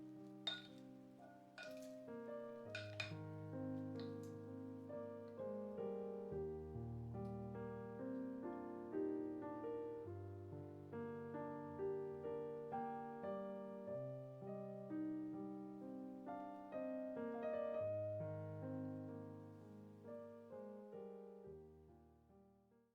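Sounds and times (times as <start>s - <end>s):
gentle piano music: 0.0s - 22.9s.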